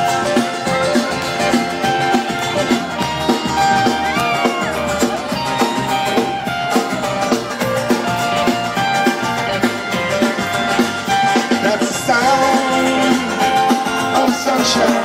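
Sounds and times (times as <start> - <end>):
live band music: 0.0 - 15.0
steady drum beat: 0.0 - 15.0.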